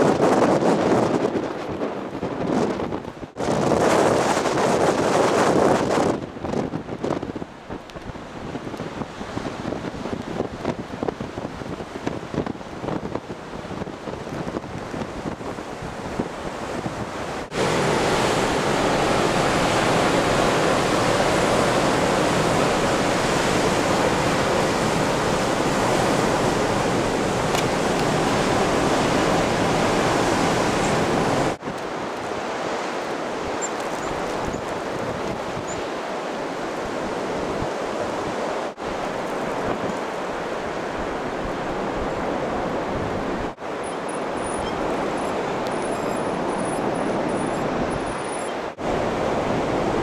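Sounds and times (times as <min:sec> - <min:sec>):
wind gusting: 0:00.0 - 0:50.0.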